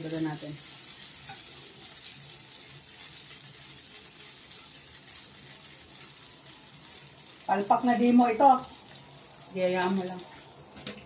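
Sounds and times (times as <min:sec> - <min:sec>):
batter sizzling in a frying pan: 0:00.0 - 0:11.0.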